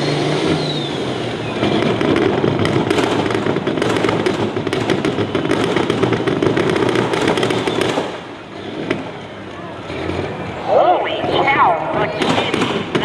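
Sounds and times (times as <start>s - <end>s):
diesel truck engine at full throttle: 0.0s - 13.0s
exhaust crackling and popping: 1.2s - 13.0s.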